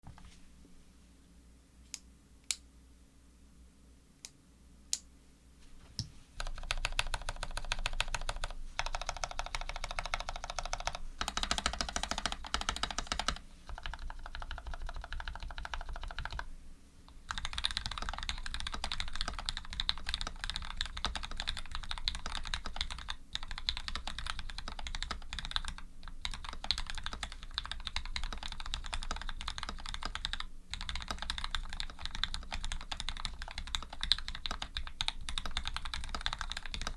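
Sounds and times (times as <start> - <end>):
mechanical keyboard typing: 6.4 - 16.5, 17.3 - 36.9.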